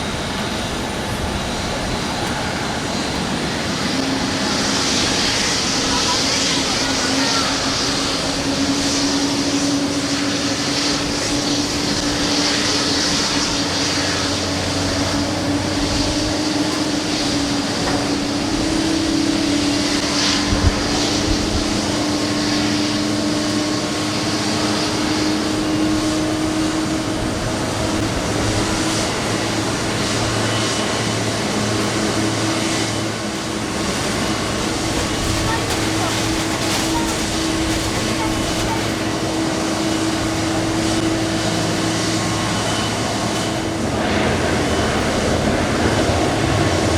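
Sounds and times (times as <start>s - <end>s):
jet engines humming: 0.0s - 46.9s.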